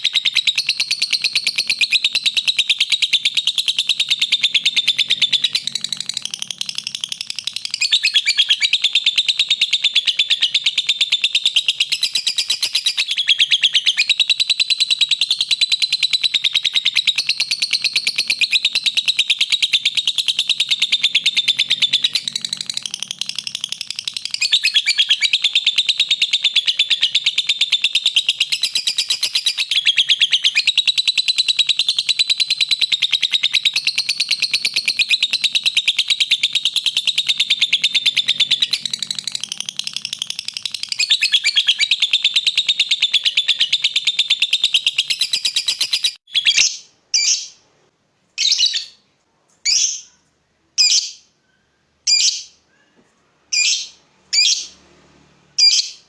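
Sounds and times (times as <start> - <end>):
lovebird chattering trill: 0.0 - 47.6, 48.4 - 49.0, 49.7 - 50.2, 50.8 - 51.3, 52.0 - 52.6, 53.5 - 54.8, 55.6 - 56.0
lovebird sharp chirps: 0.0 - 47.6, 48.4 - 49.0, 49.6 - 52.6, 53.5 - 54.8, 55.6 - 56.0.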